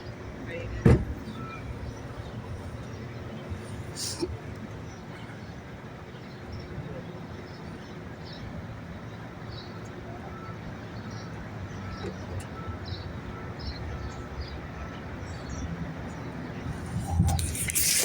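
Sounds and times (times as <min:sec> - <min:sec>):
vehicle engine and traffic rumble: 0:00.0 - 0:18.0.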